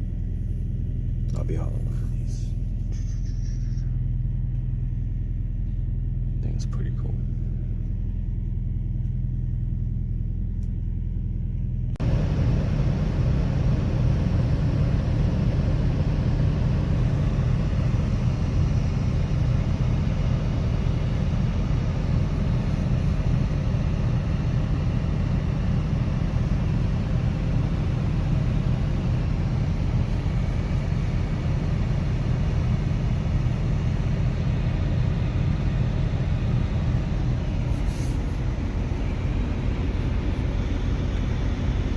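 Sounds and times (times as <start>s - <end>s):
vehicle engine rumble: 0.0s - 41.9s.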